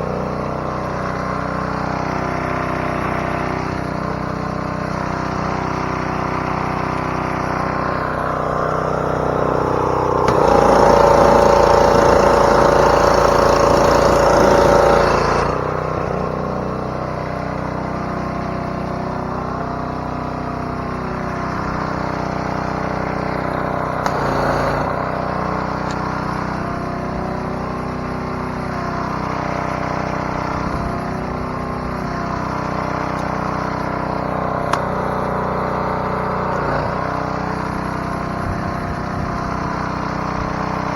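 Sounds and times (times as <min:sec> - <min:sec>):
pressure washer motor running: 0:00.0 - 0:40.9.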